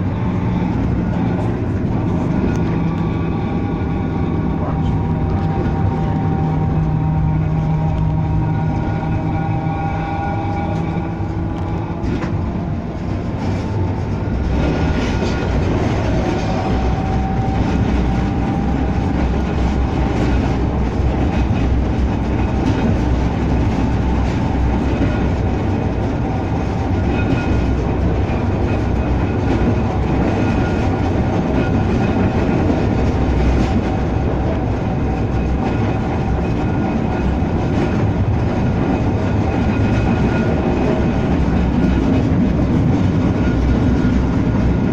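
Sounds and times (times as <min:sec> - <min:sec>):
tram wheels rumbling on rails: 0:00.0 - 0:44.9.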